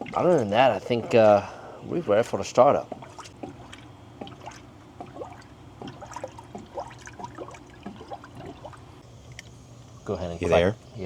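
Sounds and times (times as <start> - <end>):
coolant trickling and gurgling: 0.0 - 11.0.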